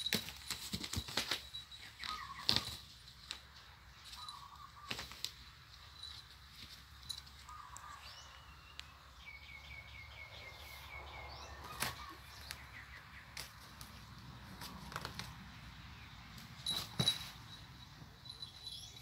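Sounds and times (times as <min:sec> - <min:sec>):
bird chirping: 0:00.1 - 0:05.2, 0:07.0 - 0:14.8, 0:15.6 - 0:19.0.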